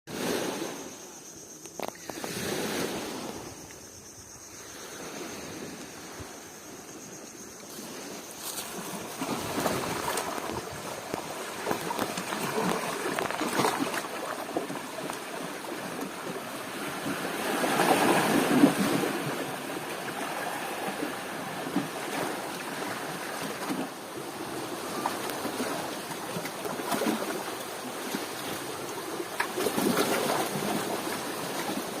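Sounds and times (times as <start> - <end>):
sea waves washing in: 2.0 - 7.0, 7.6 - 32.0.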